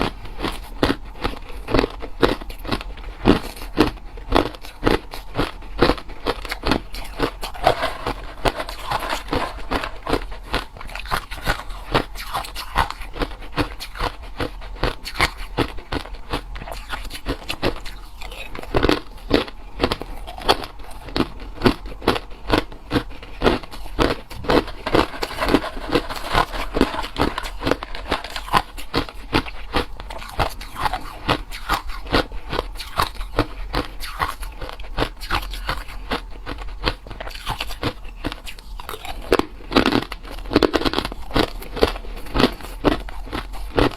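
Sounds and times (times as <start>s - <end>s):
ice crunching while chewing: 0.0s - 43.9s.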